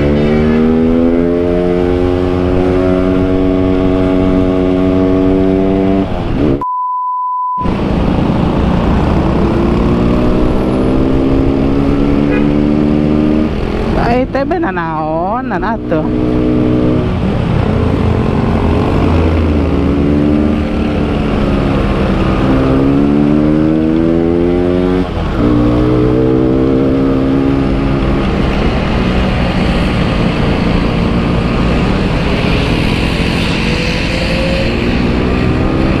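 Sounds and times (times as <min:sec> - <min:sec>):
motorcycle engine accelerating: 0:00.0 - 0:06.6, 0:07.7 - 0:36.0.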